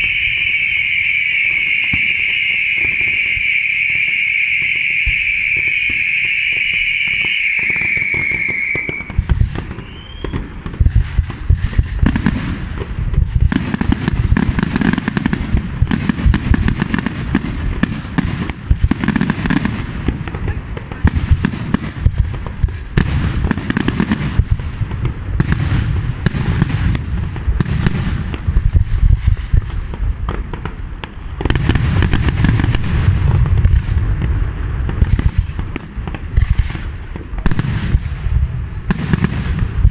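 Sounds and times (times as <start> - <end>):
firework bangs and crackling: 0.0 - 39.9
firework whistle: 0.0 - 39.9.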